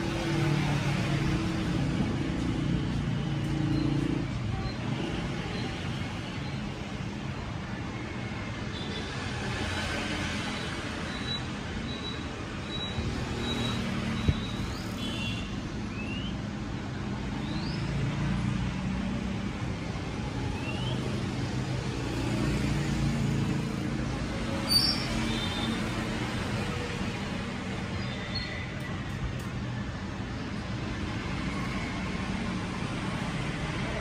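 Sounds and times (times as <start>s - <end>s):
distant road traffic rumble: 0.0s - 34.0s.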